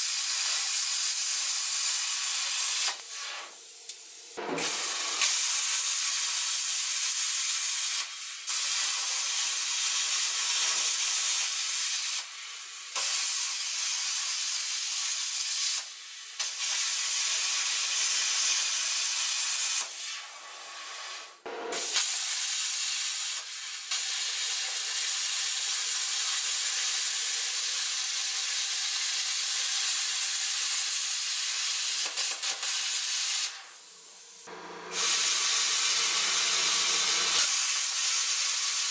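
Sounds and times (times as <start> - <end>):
plasma cutter hissing: 0.0 - 38.9.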